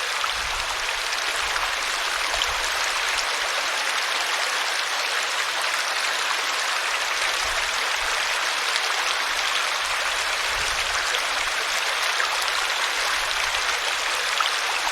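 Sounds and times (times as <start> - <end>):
river water flowing: 0.0 - 14.9.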